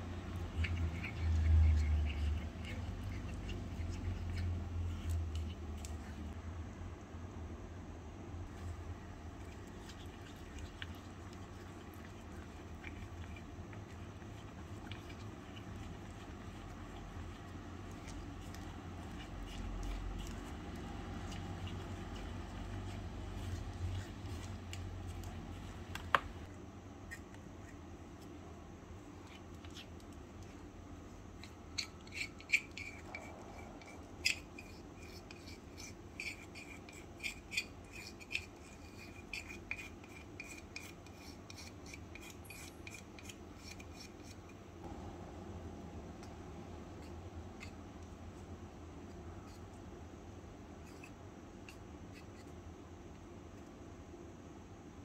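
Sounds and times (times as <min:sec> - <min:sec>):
utensil scraping cream in bowl: 0:00.0 - 0:06.4, 0:08.5 - 0:28.4, 0:29.0 - 0:44.7, 0:46.8 - 0:50.0, 0:50.7 - 0:52.6.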